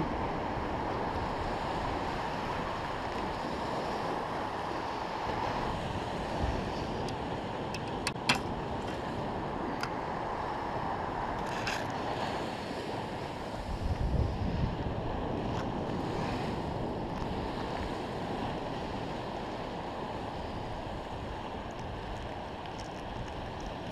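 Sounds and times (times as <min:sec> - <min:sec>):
ocean surf breaking: 0:00.0 - 0:23.9
wind buffeting microphone: 0:00.0 - 0:23.9.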